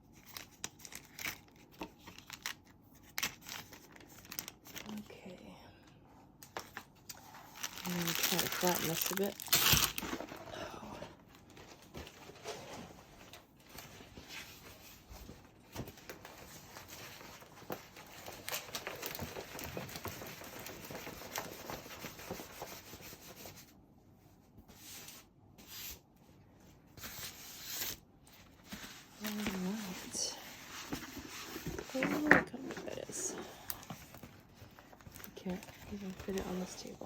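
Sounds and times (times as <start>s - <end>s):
plastic film rustling and crinkling: 0.1s - 5.3s, 6.4s - 10.6s, 11.2s - 23.7s, 26.9s - 37.0s.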